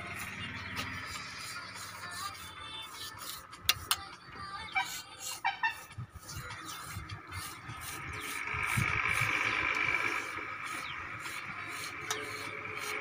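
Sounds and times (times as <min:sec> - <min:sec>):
hand tool scraping wet mortar: 0:00.0 - 0:04.1, 0:04.8 - 0:09.3, 0:10.2 - 0:13.0.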